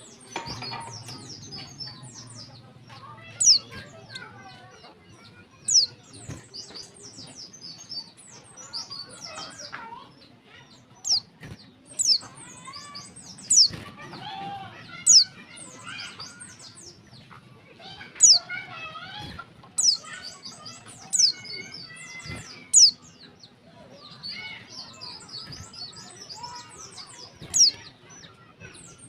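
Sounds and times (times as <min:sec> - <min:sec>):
bird twittering chirps: 0:00.0 - 0:09.8, 0:10.6 - 0:13.8, 0:14.8 - 0:29.0.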